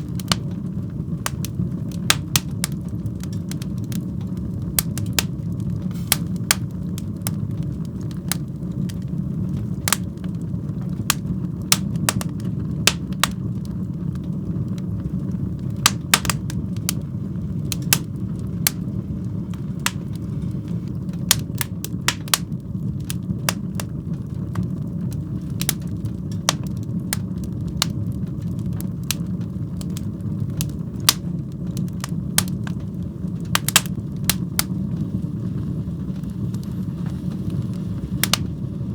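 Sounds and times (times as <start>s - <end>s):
fire crackling and popping: 0.0s - 38.9s
fire rumbling in fireplace: 0.0s - 38.9s.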